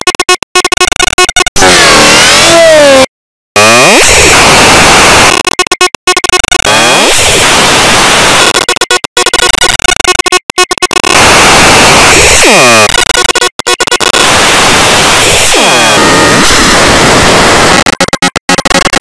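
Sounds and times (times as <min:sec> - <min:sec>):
distorted cartoon music: 0:00.0 - 0:19.0.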